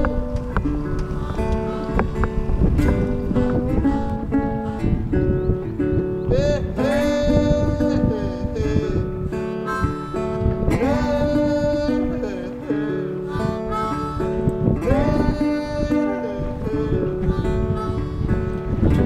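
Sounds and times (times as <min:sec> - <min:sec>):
guitar-led background music: 0:00.0 - 0:19.0.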